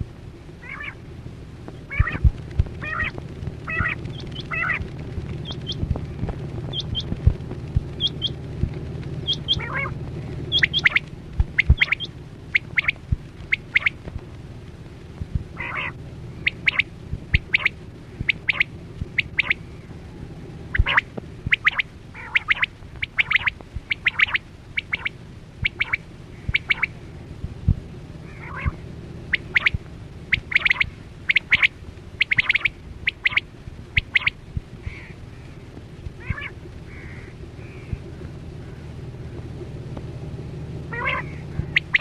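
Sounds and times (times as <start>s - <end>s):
quail calling: 0.6s - 1.1s, 1.8s - 7.2s, 7.9s - 8.4s, 9.2s - 14.0s, 15.6s - 27.2s, 28.2s - 39.4s, 40.9s - 42.0s.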